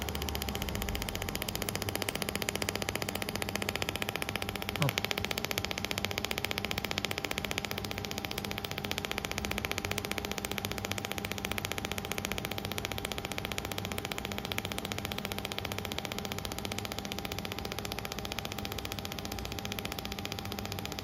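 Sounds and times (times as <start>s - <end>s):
rapid laser pulse clicking: 0.0s - 21.0s
steady machine hum: 0.0s - 21.0s.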